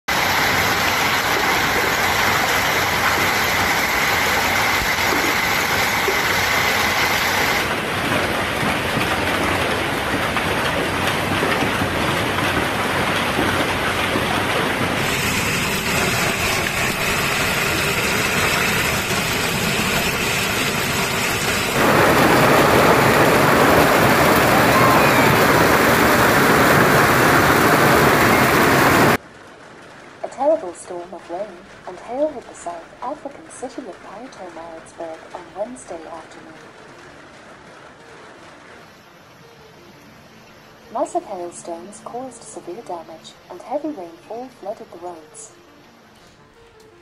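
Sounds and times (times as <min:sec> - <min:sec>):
heavy hail and rain: 0:00.1 - 0:41.1.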